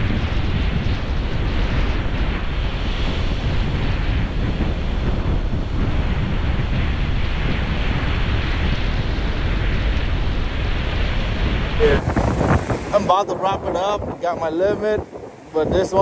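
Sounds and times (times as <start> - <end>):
surf washing on a beach: 0.0 - 16.0
wind buffeting the microphone: 0.0 - 16.0.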